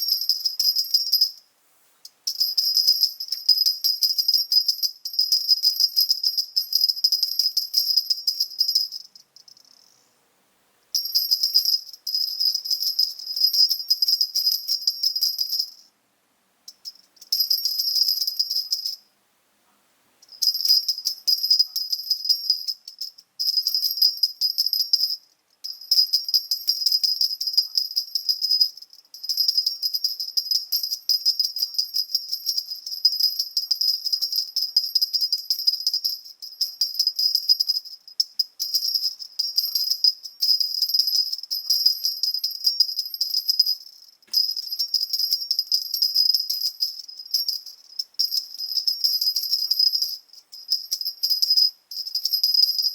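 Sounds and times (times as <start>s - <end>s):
metal jingle bell shaken: 0.0s - 1.4s, 2.2s - 10.0s, 11.0s - 15.9s, 16.8s - 19.0s, 20.2s - 52.9s.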